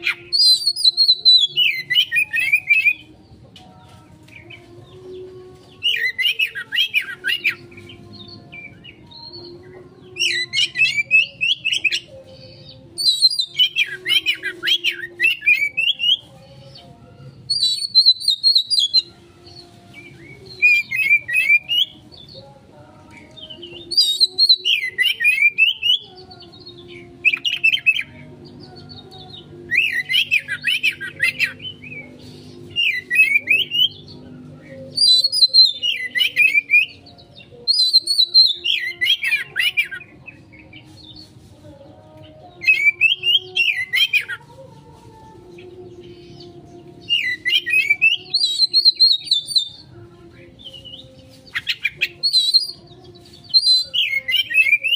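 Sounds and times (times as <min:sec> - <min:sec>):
magpie-robin singing frantically: 0:00.0 - 0:03.5, 0:04.1 - 0:54.9.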